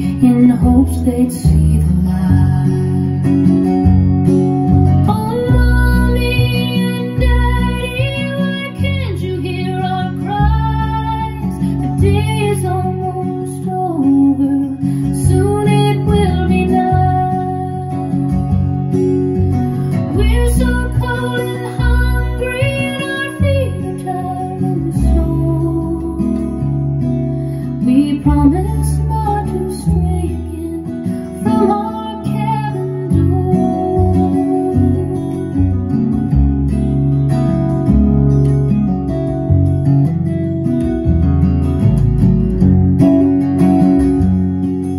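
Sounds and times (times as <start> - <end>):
acoustic guitar music: 0.0 - 44.9.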